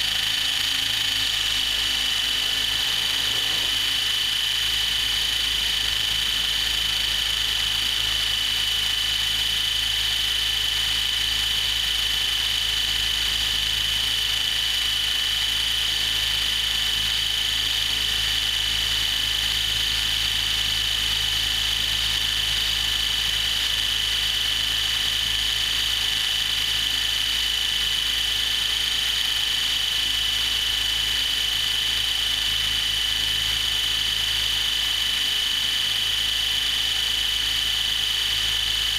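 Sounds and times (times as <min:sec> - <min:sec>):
electric helicopter rotor running: 0:00.0 - 0:38.9
high-pitched electric whine: 0:00.0 - 0:38.9.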